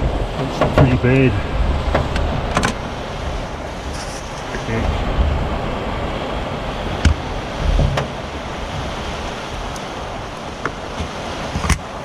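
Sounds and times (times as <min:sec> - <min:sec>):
heavy rain: 0:00.0 - 0:12.0
strong wind: 0:00.0 - 0:12.0.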